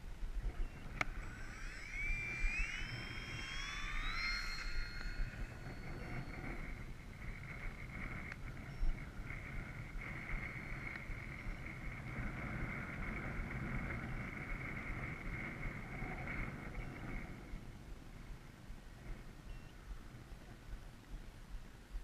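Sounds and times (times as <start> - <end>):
wind buffeting microphone: 0.0 - 22.0
model airplane motor whine: 0.1 - 17.8.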